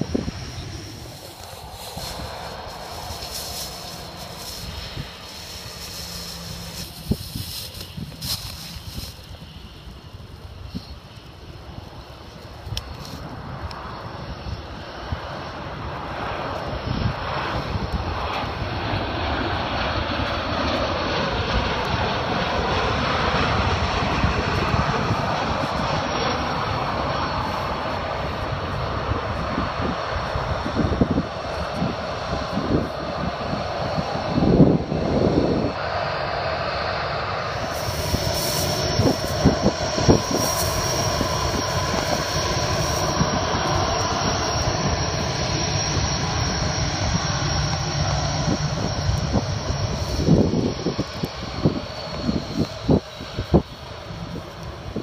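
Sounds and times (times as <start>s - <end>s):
high steady whine: 0.0s - 55.0s
jet engines roaring: 0.0s - 55.0s.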